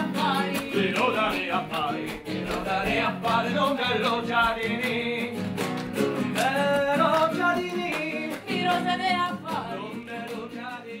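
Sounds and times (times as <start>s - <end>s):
person singing: 0.0s - 5.4s, 6.4s - 11.0s
acoustic guitar: 0.0s - 11.0s.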